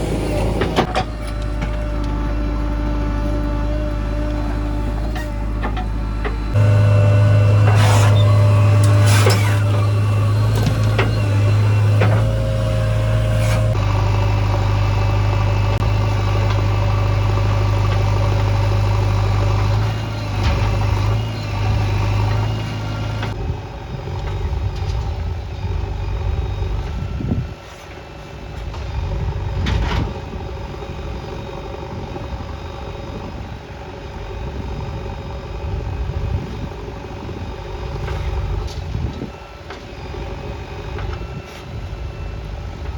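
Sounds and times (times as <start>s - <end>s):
diesel machinery humming: 0.0s - 42.9s.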